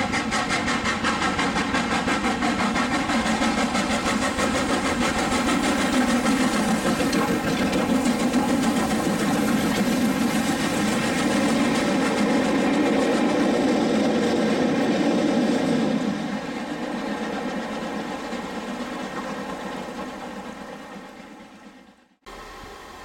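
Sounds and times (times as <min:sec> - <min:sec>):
steam locomotive exhaust beat: 0:00.0 - 0:23.0.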